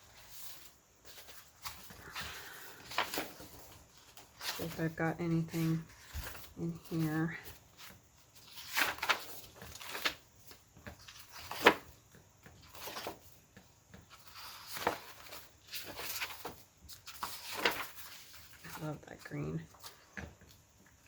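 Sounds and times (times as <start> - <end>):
hands rummaging through paper scraps: 0.2 - 11.9, 14.1 - 20.0.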